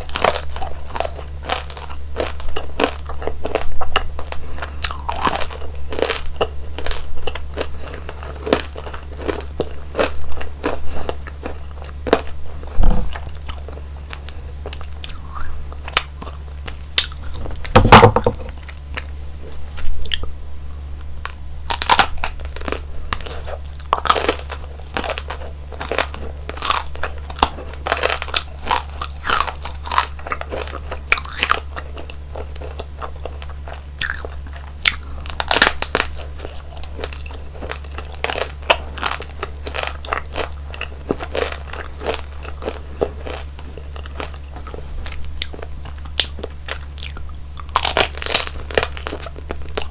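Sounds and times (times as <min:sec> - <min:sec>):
crunchy bites and chewing: 0:00.0 - 0:49.9.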